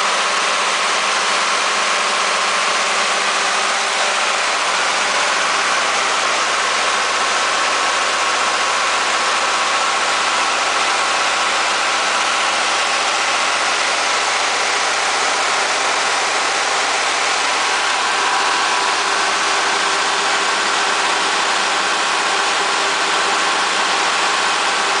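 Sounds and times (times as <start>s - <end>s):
diesel generator running: 0.0s - 25.0s.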